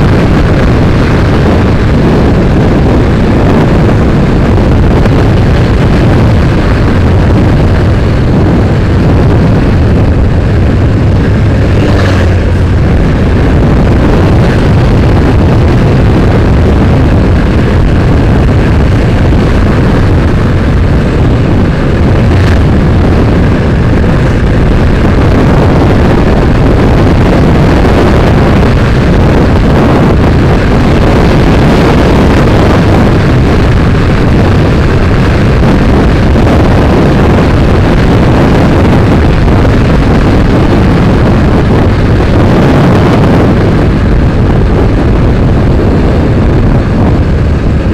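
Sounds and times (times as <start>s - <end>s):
motorcycle engine: 0.0s - 47.9s
road noise: 0.0s - 47.9s
wind buffeting microphone: 0.0s - 47.9s.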